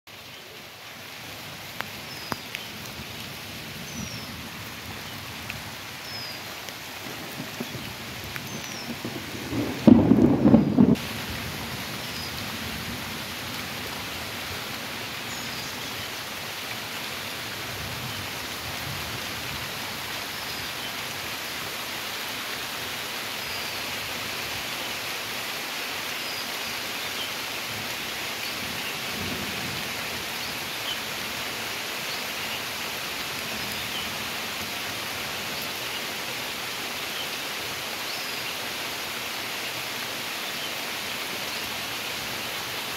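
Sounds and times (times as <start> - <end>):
rain falling on water: 0.1 - 42.9.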